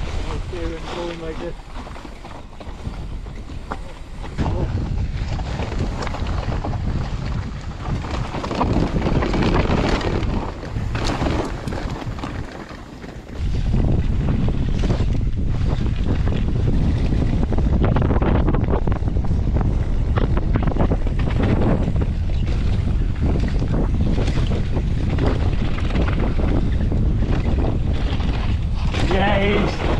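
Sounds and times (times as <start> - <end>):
bike rattling on dirt: 0.0 - 29.9
wind buffeting microphone: 0.0 - 29.9.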